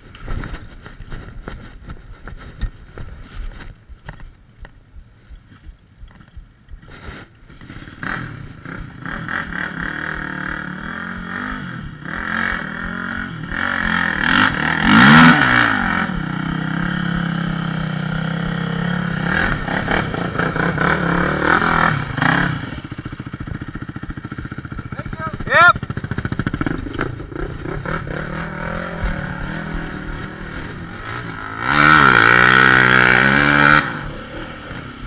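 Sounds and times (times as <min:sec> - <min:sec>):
atv engine revving: 0:06.1 - 0:35.0.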